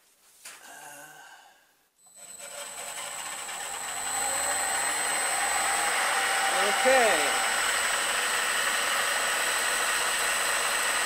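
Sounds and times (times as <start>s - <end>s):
milling machine spindle motor whine: 2.1s - 11.0s.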